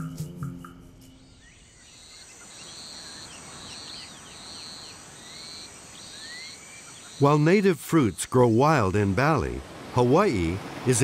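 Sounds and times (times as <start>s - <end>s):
birds chirping: 1.0s - 11.0s
outdoor hiss: 1.2s - 11.0s.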